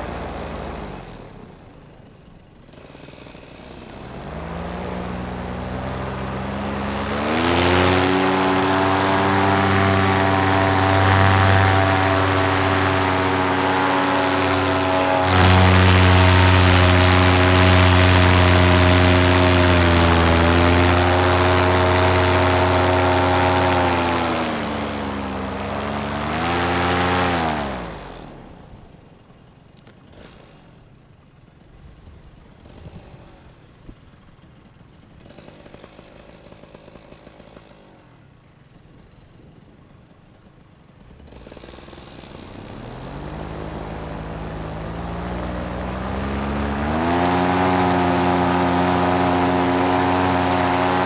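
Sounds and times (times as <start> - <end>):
paramotor engine and propeller: 0.0 - 51.0.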